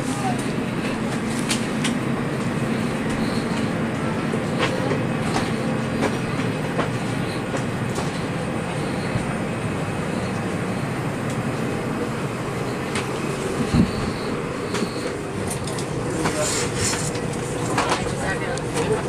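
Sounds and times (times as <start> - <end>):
cabin ventilation air rushing: 0.0 - 19.0.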